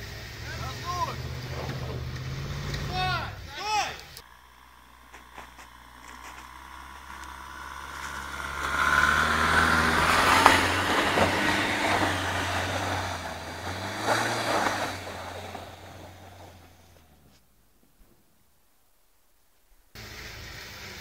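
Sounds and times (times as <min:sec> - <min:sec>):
off-road vehicle engine revving: 0:00.0 - 0:17.4, 0:20.0 - 0:21.0.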